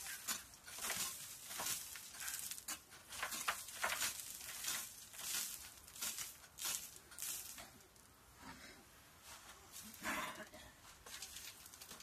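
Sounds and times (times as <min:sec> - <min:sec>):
grit falling hiss: 0:00.0 - 0:12.0.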